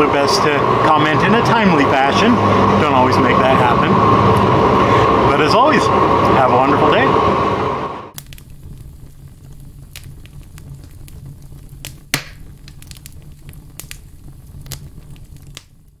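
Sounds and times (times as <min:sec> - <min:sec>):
fire crackling and popping: 0:00.0 - 0:16.0
low steady rumble: 0:00.0 - 0:16.0.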